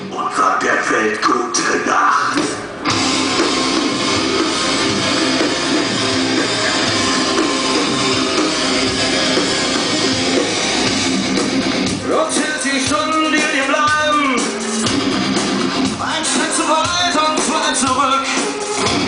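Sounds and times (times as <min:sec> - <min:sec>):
live rock band: 0:02.3 - 0:19.0.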